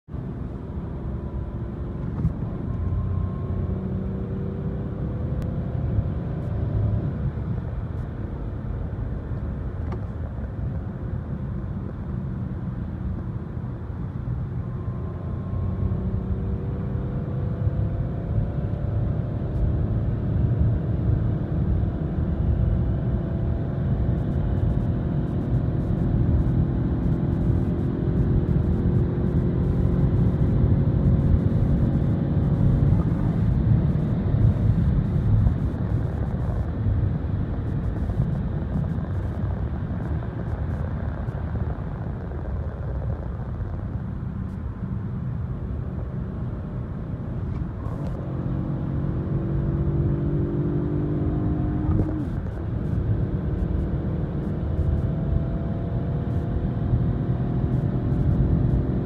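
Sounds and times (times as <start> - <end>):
road noise inside car: 0.1 - 59.0
car engine accelerating: 0.6 - 59.0.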